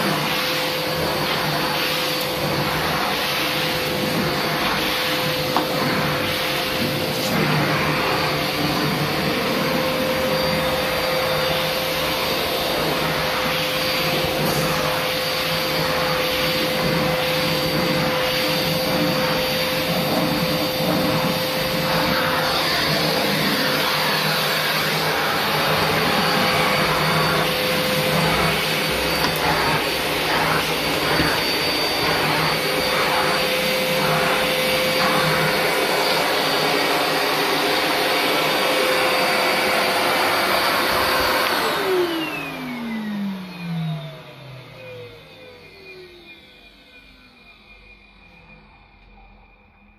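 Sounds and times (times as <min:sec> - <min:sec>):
floor tool on carpet: 0:00.0 - 0:43.7
vacuum motor winding down: 0:00.0 - 0:49.4
vacuum cleaner whine: 0:00.0 - 0:49.9.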